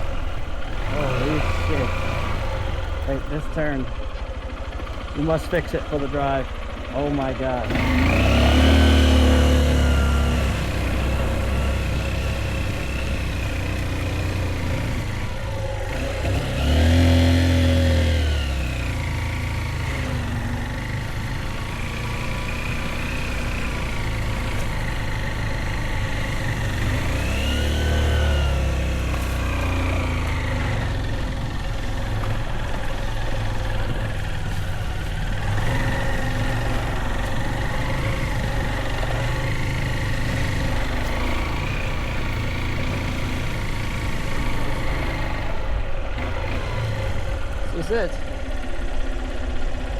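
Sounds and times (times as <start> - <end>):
motorbike engine revving: 0.0 - 49.9.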